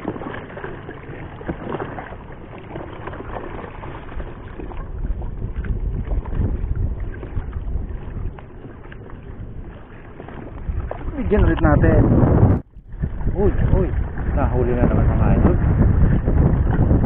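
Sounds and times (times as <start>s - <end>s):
water lapping around boat: 0.0s - 17.0s
wind on microphone: 0.0s - 17.0s.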